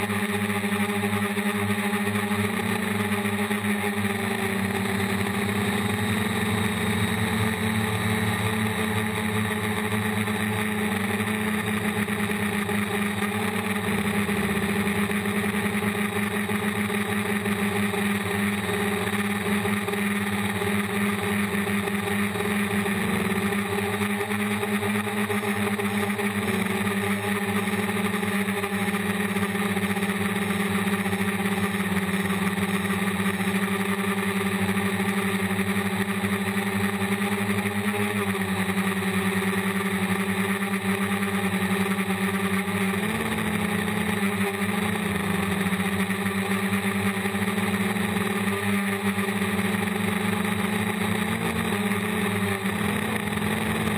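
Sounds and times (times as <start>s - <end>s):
quadcopter motors humming: 0.0s - 53.9s.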